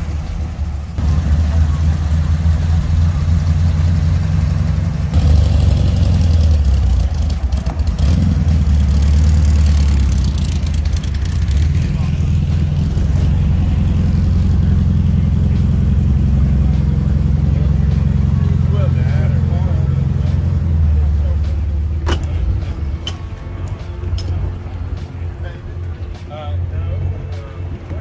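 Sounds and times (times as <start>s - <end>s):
car engines droning: 0.0s - 28.0s
people talking: 1.0s - 5.5s, 10.0s - 28.0s.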